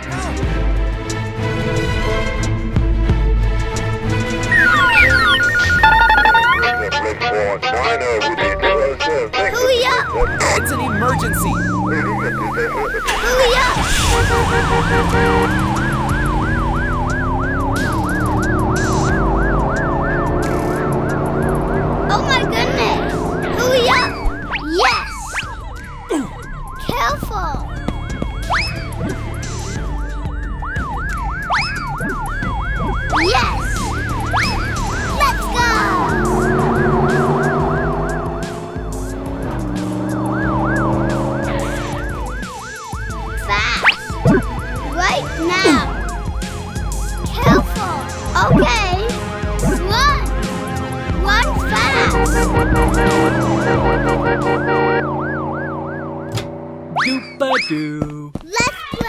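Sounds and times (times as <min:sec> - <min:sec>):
ambulance siren wailing: 0:04.1 - 0:57.4.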